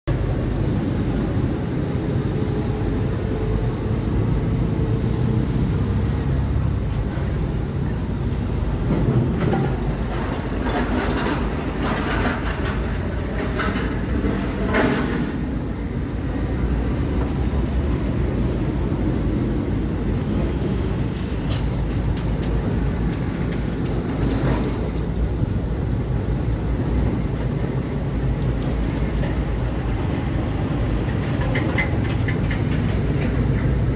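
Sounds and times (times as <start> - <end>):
excavator diesel engine rumbling: 0.2 - 33.9.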